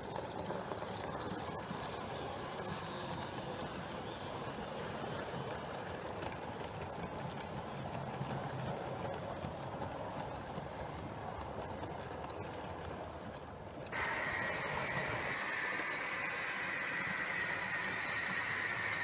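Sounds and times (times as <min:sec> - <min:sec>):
model train rumbling past: 0:00.0 - 0:19.0
wheels clicking on rail: 0:00.0 - 0:19.0.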